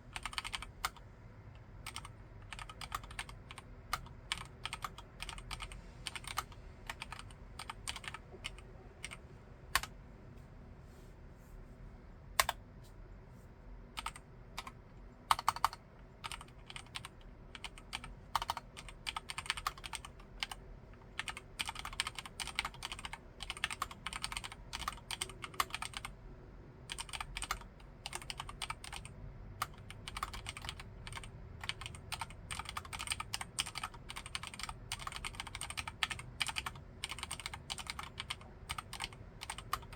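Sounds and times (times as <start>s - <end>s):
typing on mechanical keyboard: 0.1s - 1.0s, 1.8s - 9.2s, 12.4s - 12.6s, 14.0s - 26.1s, 26.9s - 39.9s.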